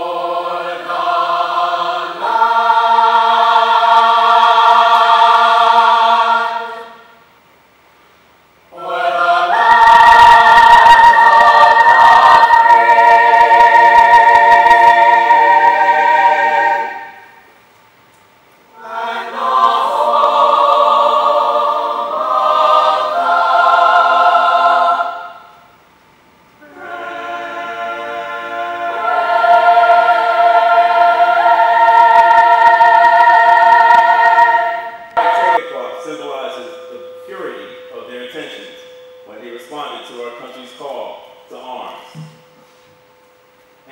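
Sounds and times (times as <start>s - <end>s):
choir singing sustained chords: 0.0s - 7.4s, 8.7s - 17.7s, 18.7s - 26.0s, 26.6s - 43.9s.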